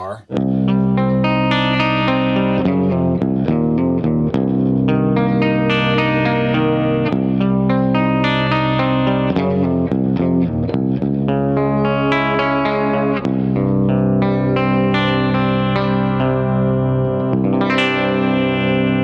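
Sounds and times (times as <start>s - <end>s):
clean electric guitar: 0.0s - 19.0s.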